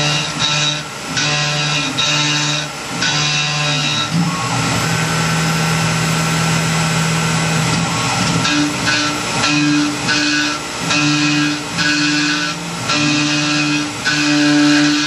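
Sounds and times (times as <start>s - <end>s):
humming tones: 0.0s - 15.0s
mill cutting metal hiss: 0.0s - 15.0s.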